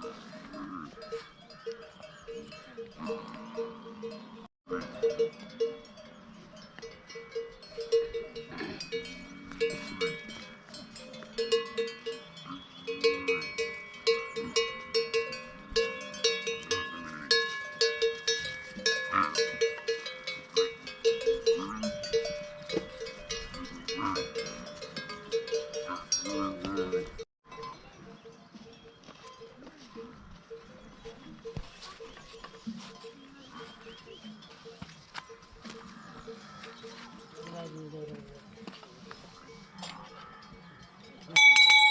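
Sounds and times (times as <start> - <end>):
bell clanking steadily: 0.0 - 35.6, 36.2 - 41.9
livestock bells clanking: 0.0 - 41.9.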